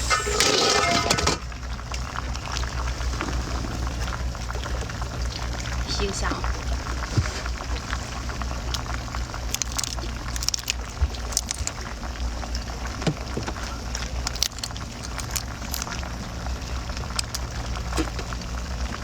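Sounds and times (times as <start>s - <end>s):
steady low hum: 0.0s - 19.0s
water sloshing and splashing: 0.0s - 19.0s.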